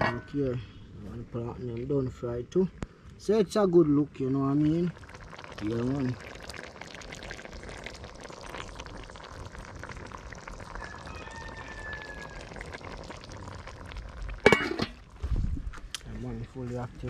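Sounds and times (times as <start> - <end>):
pot bubbling with crackle: 0.0 - 17.0.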